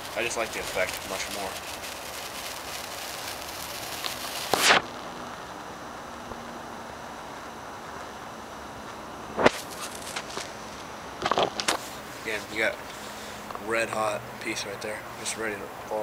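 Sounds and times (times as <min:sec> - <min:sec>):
sparkler fizzing and crackling: 0:00.0 - 0:16.0.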